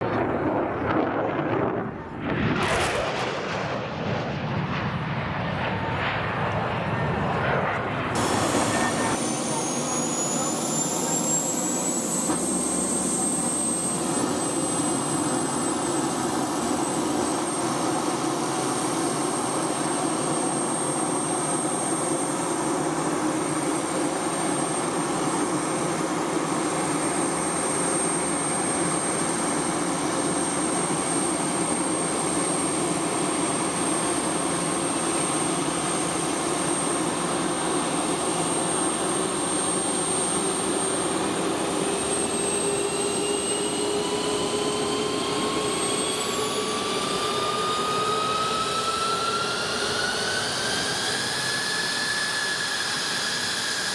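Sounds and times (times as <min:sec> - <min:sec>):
jet engine roaring: 0:00.0 - 0:53.9.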